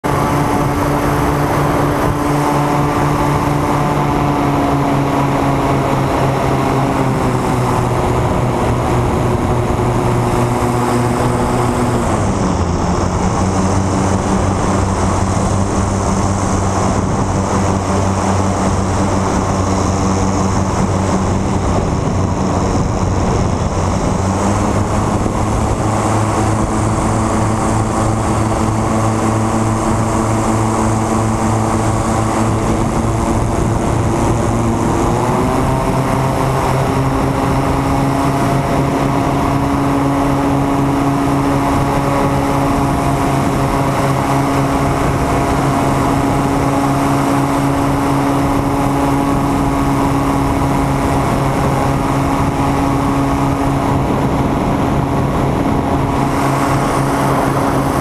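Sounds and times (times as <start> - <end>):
propeller aircraft engine: 0.0 - 58.0.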